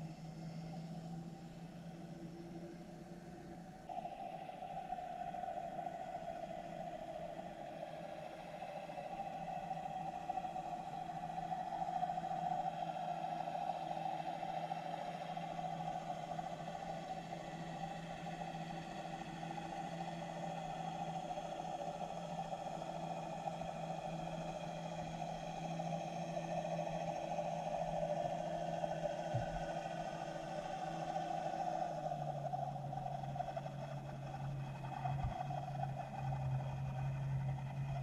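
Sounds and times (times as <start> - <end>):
underwater hum: 0.4 - 38.0.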